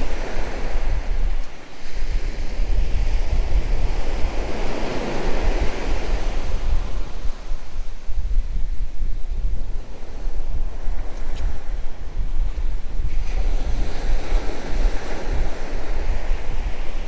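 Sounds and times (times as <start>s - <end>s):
wind gusting on microphone: 0.0s - 17.0s.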